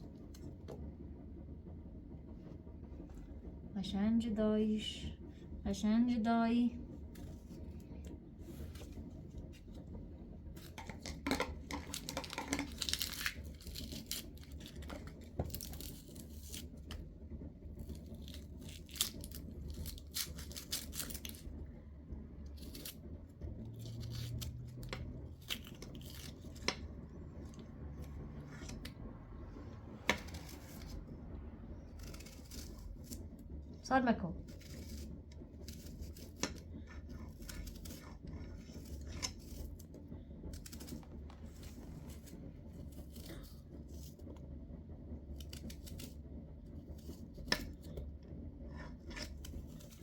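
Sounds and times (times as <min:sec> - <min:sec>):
steady low rumble: 0:00.0 - 0:50.0.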